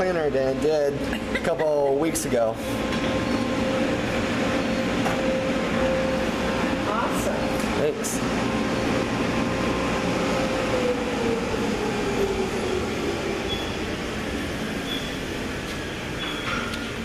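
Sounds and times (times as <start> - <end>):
car wash machinery rushing: 0.0 - 17.0.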